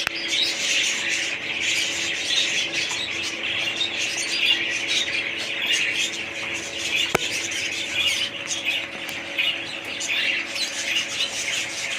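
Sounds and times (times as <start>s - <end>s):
faint steady hum: 0.0s - 11.9s
parrots chattering and squawking: 0.0s - 11.9s.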